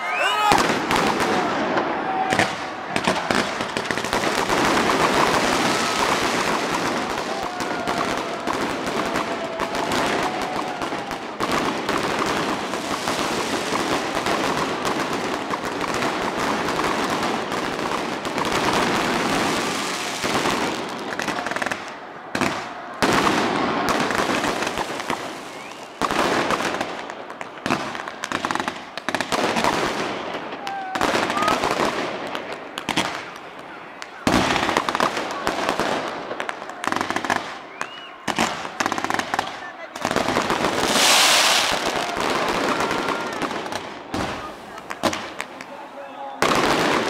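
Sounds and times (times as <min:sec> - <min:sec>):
fireworks crackling and popping: 0:00.3 - 0:47.0.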